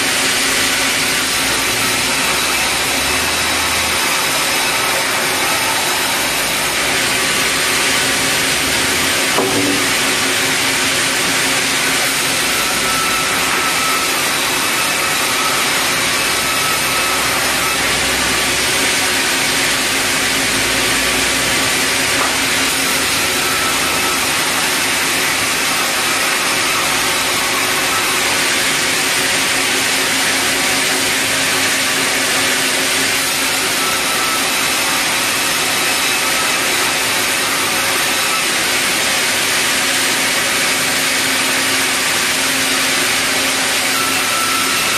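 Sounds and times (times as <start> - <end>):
band saw running: 0.0 - 44.9.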